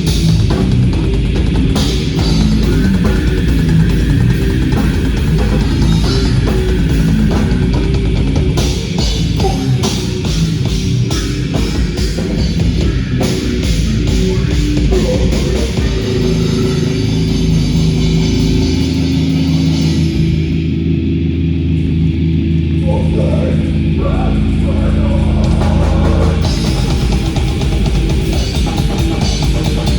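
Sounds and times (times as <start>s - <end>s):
distorted guitar chord ringing: 0.0s - 29.9s
drum kit pounding: 0.0s - 29.9s
heavy metal band playing live: 0.0s - 29.9s.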